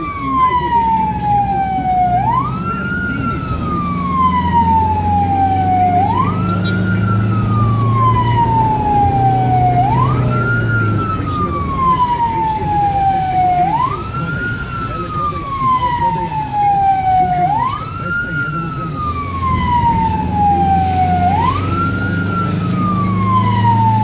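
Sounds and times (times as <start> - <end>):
ambulance siren wailing: 0.0 - 24.0
van engine droning: 0.0 - 24.0.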